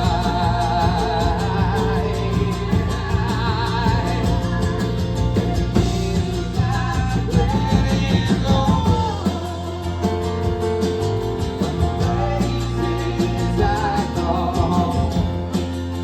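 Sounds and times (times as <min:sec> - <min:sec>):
steady drum beat: 0:00.0 - 0:16.0
sustained bass notes: 0:00.0 - 0:16.0.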